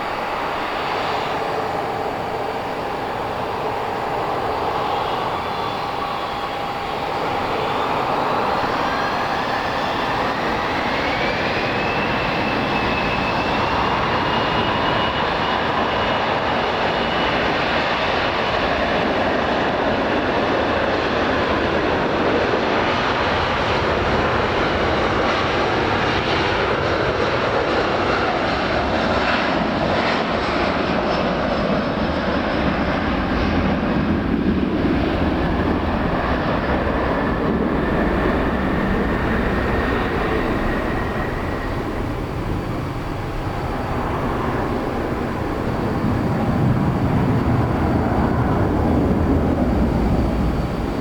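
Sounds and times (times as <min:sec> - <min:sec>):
jet engine whine: 0:00.0 - 0:51.0
loud jet engine noise: 0:00.0 - 0:51.0.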